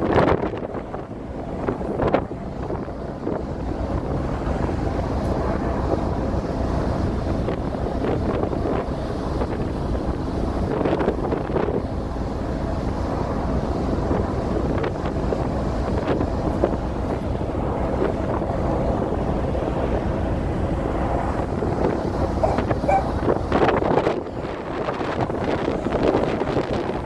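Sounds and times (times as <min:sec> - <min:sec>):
rush of ship's wake: 0:00.0 - 0:27.0
ship engine drone: 0:00.0 - 0:27.0
wind buffeting microphone: 0:00.0 - 0:27.0.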